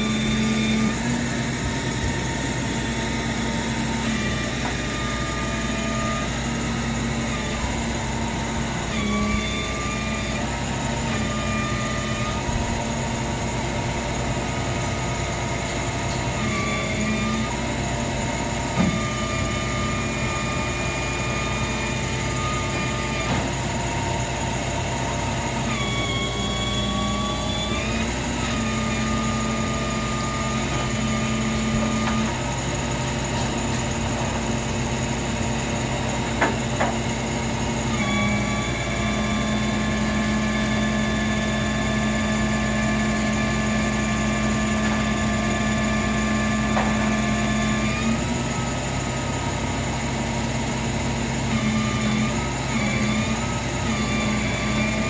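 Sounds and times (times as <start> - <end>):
motor running: 0.0 - 55.0.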